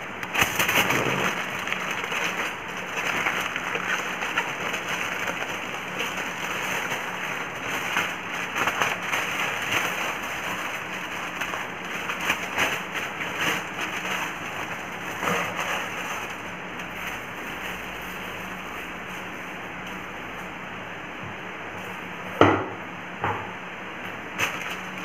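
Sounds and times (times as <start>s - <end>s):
aluminium foil crinkling: 0.0s - 19.5s, 24.3s - 25.0s.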